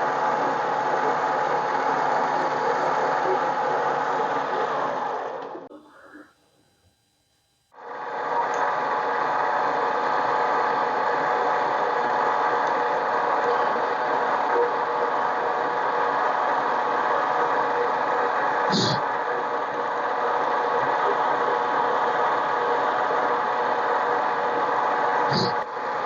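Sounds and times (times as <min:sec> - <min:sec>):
lathe motor whirring: 0:00.0 - 0:26.0.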